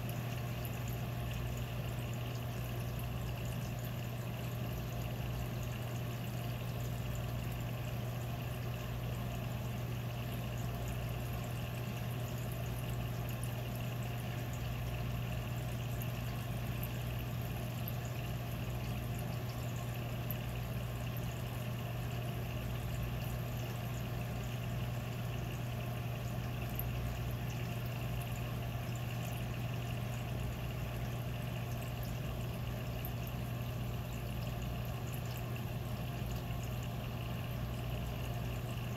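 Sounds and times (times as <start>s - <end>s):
pump hum: 0.0s - 38.9s
water trickling: 0.0s - 38.9s.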